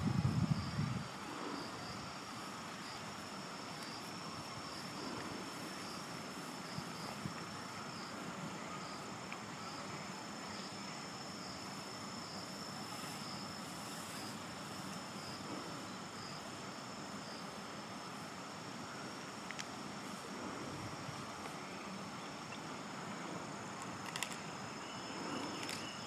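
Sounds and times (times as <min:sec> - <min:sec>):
background hiss: 0:00.0 - 0:26.0
insect high-pitched trill: 0:00.0 - 0:26.0.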